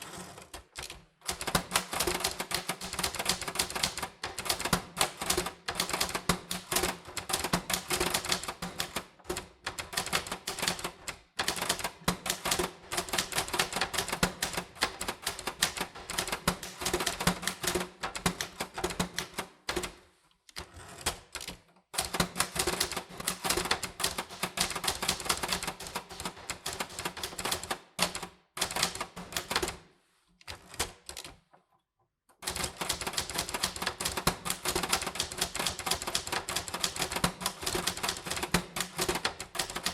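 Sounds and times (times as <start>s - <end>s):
typewriter keys clicking: 0.1s - 29.8s, 30.4s - 31.5s, 32.4s - 39.9s.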